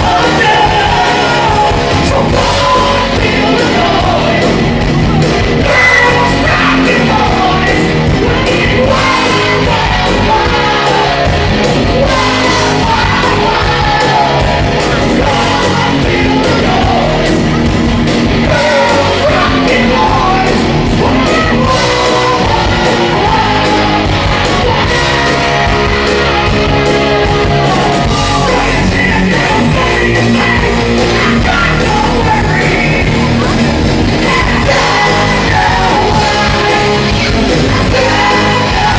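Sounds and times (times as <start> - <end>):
person singing: 0.0 - 17.6, 18.4 - 38.9
drums: 0.0 - 38.9
electric guitars: 0.0 - 38.9.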